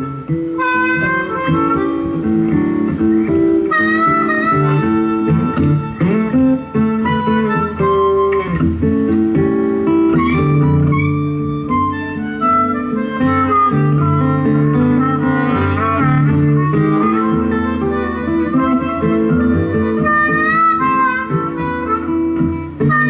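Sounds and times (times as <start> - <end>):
acoustic guitars playing chords: 0.0 - 23.0
harmonica playing blues: 0.0 - 23.0.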